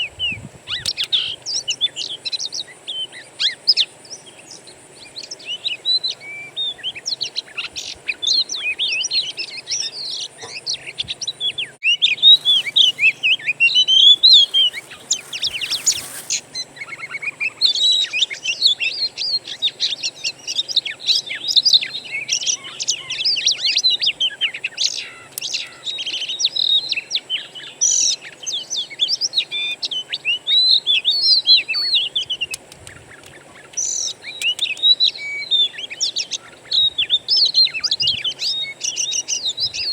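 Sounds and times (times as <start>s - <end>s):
songbird whistles and chirps: 0.0s - 39.9s.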